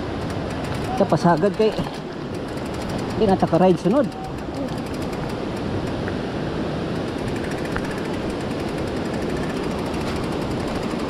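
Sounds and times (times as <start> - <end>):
bike rattling over rocky trail: 0.0 - 6.0, 7.0 - 11.0.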